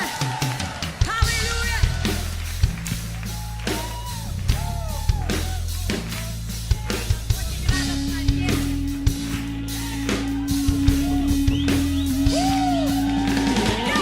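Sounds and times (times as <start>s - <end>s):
song with drums bass and guitar: 0.0s - 14.0s.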